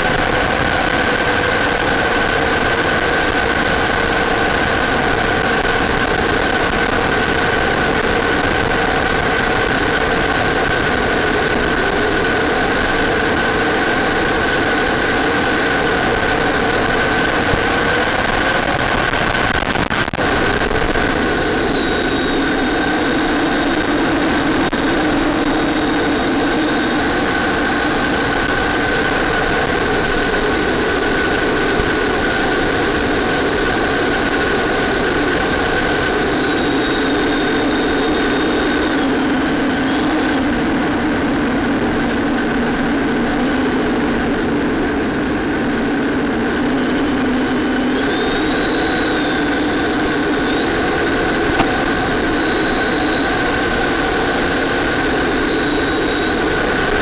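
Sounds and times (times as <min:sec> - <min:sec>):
rushing air: 0:00.0 - 0:42.0, 0:44.6 - 0:57.0
model plane motor whine: 0:00.0 - 0:57.0.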